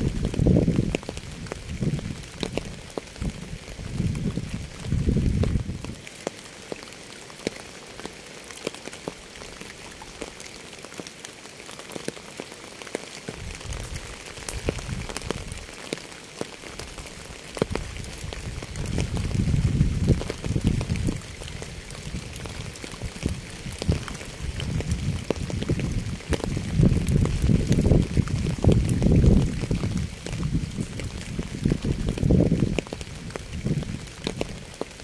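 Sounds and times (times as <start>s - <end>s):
rain hissing: 0.0s - 35.0s
raindrops clicking close by: 0.0s - 35.0s.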